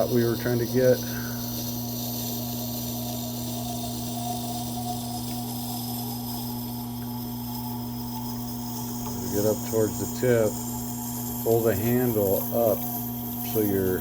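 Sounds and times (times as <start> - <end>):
sharpener motor hum: 0.0 - 14.0.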